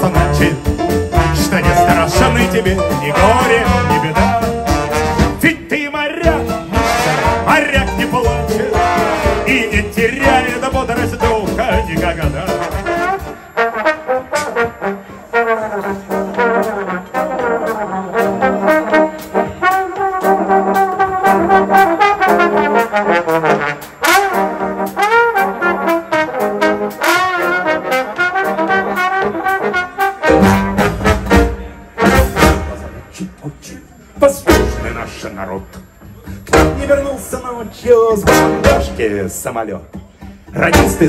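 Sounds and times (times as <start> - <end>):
trombones playing in harmony: 0.0 - 5.6, 6.2 - 33.4, 36.5 - 37.4, 38.2 - 39.1.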